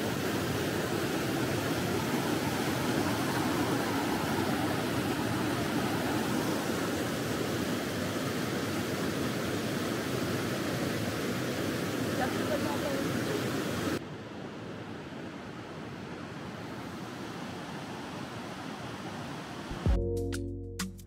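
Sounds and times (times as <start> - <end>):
river rushing over boulders: 0.0 - 19.8.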